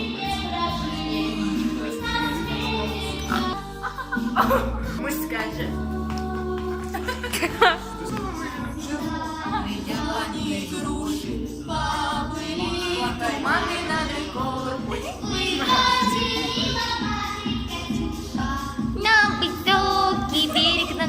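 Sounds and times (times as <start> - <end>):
young female voices singing: 0.0 - 21.0.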